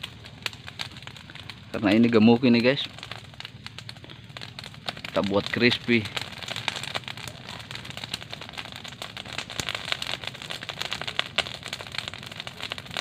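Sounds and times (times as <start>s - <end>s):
dry palm fronds crackling in fire: 0.0s - 13.0s.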